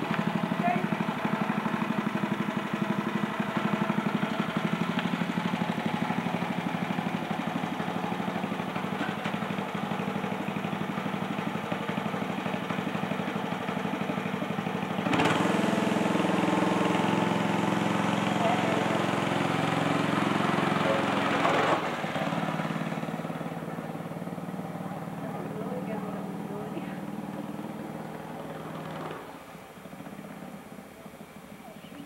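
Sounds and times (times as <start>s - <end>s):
go-kart engine putter: 0.0s - 25.4s, 27.0s - 30.6s.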